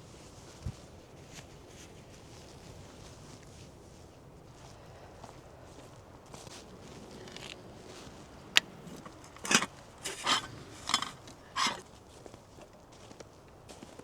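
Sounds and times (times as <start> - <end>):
footsteps crunching in snow: 0.0 - 14.0.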